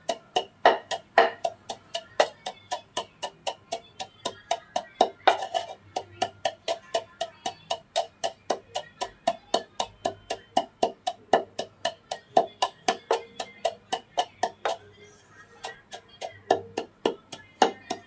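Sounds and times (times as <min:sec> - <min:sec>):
wooden pestle pounding in mortar: 0:00.0 - 0:18.0.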